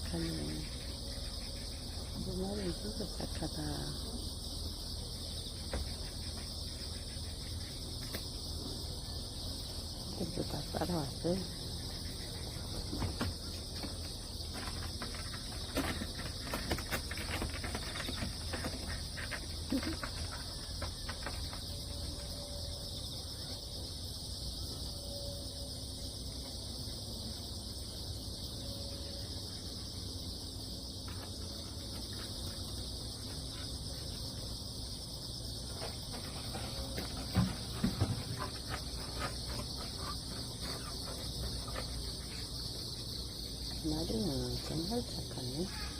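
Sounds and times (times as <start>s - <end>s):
crickets and insects chirring: 0.0s - 45.9s.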